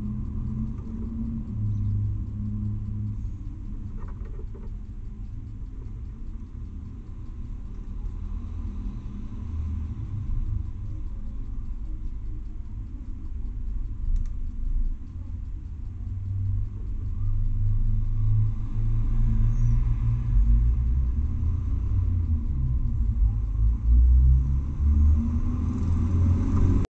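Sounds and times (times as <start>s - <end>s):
low uneven rumble: 0.0s - 26.9s.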